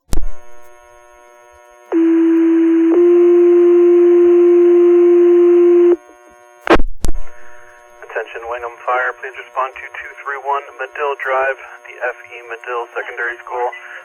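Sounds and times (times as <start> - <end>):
faint radio hiss: 0.1 - 14.0.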